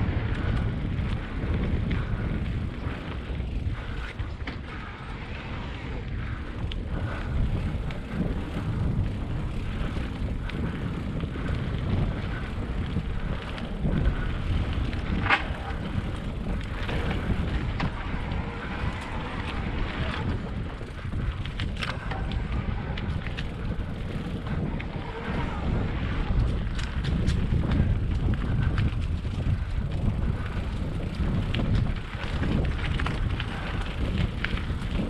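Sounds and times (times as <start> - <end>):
tyres rumbling on road: 0.0 - 35.0
wind buffeting microphone: 0.0 - 35.0.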